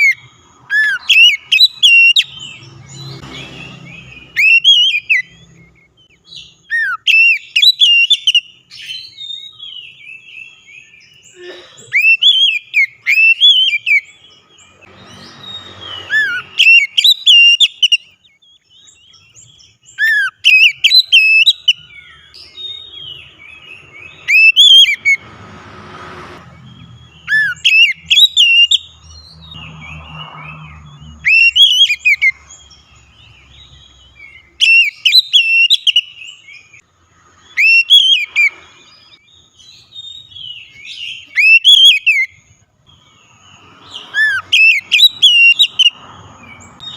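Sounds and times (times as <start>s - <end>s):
bird whistling song: 0.0s - 25.2s, 26.4s - 36.8s, 37.4s - 46.9s.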